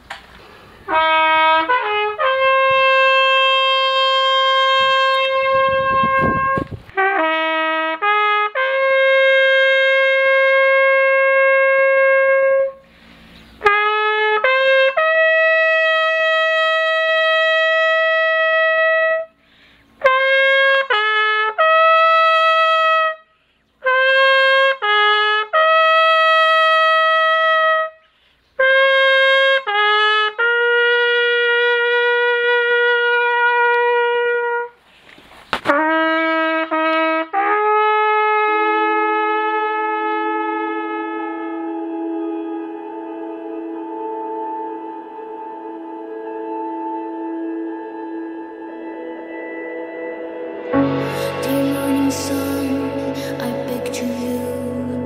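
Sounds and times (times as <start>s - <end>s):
solo trumpet call: 0.0s - 34.9s, 35.6s - 55.0s.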